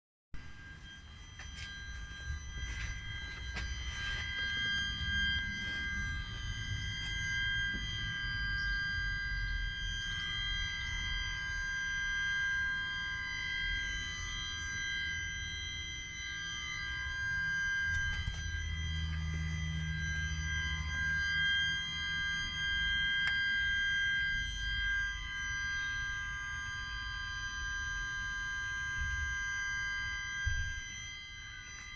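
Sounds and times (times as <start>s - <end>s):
high-pitched multi-tone whine: 0.4s - 31.9s.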